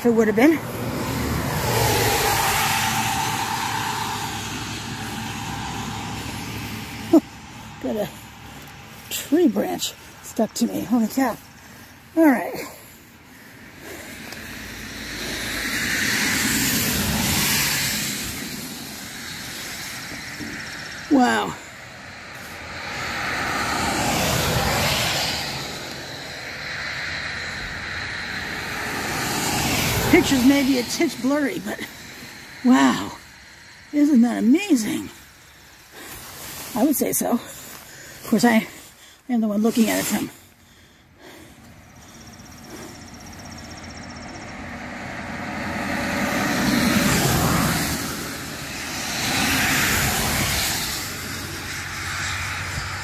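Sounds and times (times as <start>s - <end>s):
road vehicle passing by: 0.0s - 53.0s.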